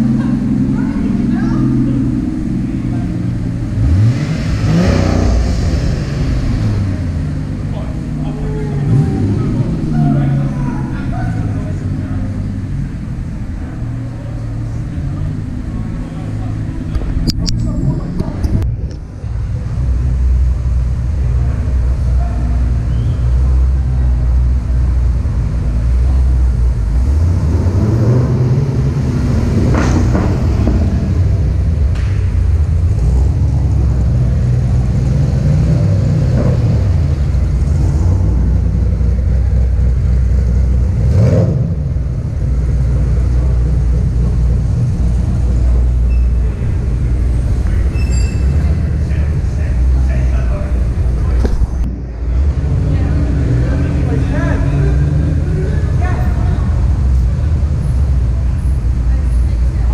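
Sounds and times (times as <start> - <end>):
car engines revving: 0.0 - 59.9
car engines rumbling: 0.0 - 59.9.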